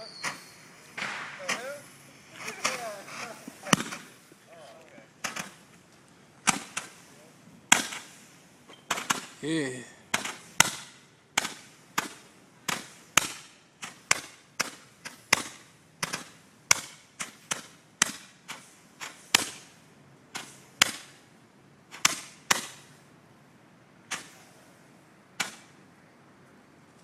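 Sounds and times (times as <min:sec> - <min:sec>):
firecrackers banging: 0:00.0 - 0:23.1.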